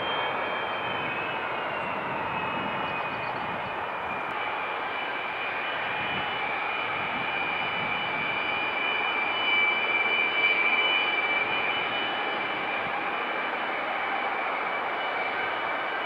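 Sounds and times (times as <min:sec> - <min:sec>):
jet engine roar with fan whine: 0:00.0 - 0:16.0.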